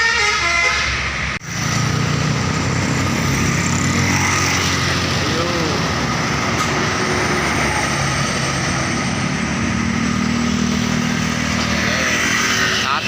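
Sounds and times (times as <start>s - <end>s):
passing vehicle engines: 0.0s - 13.0s.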